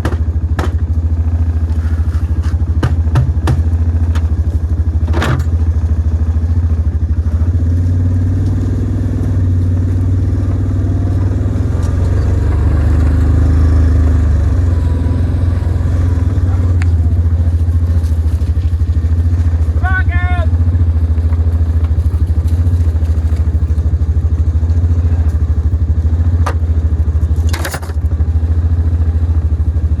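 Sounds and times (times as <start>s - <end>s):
small vehicle engine running: 0.0s - 30.0s.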